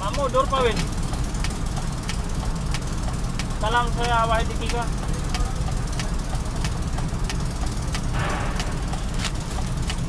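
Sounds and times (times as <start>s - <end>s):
diesel truck engine idling: 0.0s - 10.0s
sharp engine tick: 0.0s - 10.0s.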